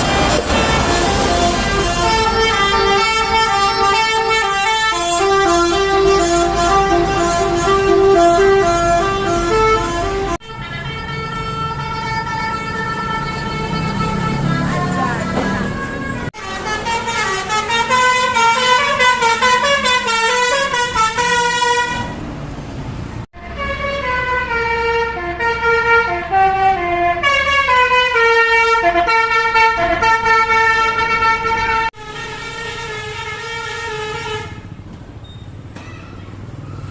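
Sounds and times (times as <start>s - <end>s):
melodic bus horn: 0.0s - 22.2s, 23.3s - 34.8s.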